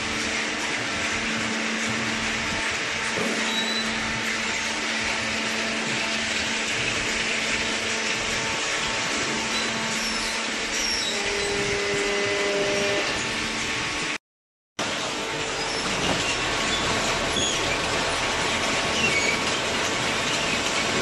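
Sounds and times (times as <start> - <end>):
whirring machinery: 0.0 - 14.2, 14.8 - 21.0.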